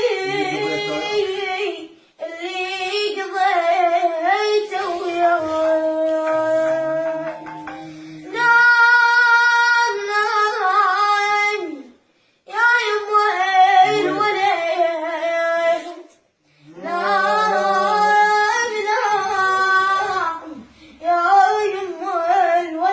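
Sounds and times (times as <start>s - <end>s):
high voice singing an elegy: 0.0s - 11.9s, 12.5s - 16.1s, 16.7s - 22.9s.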